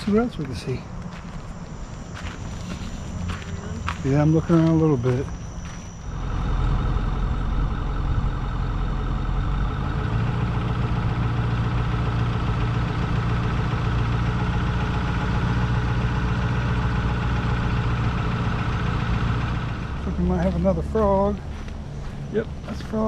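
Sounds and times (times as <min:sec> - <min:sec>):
road noise: 0:00.0 - 0:23.0
vehicle engine cruising: 0:00.0 - 0:23.0.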